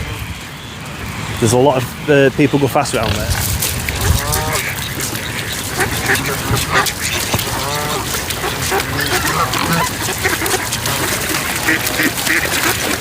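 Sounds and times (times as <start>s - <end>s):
waterfowl calling: 0.0s - 13.0s.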